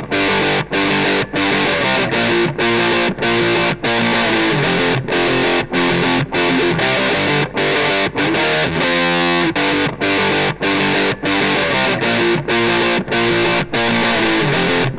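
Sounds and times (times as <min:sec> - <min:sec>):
distorted electric guitar riff: 0:00.0 - 0:14.9.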